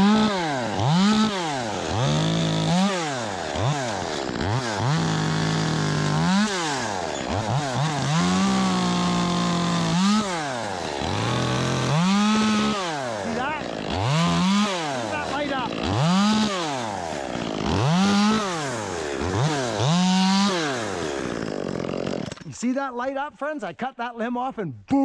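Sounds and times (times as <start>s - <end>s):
chainsaw cutting through limb: 0.0s - 22.6s
chainsaw revving: 0.0s - 22.6s.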